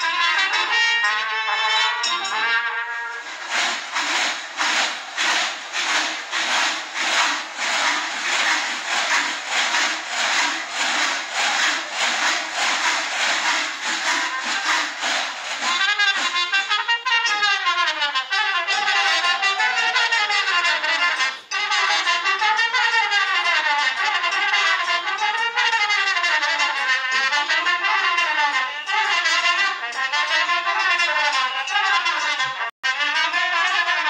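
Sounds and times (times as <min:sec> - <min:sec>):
brass band playing dance music: 0:00.0 - 0:34.0.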